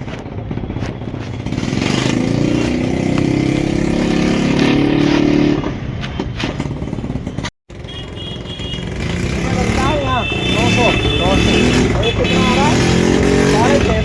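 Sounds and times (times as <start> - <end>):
motorcycle engine running: 0.0 - 5.8, 6.5 - 14.0.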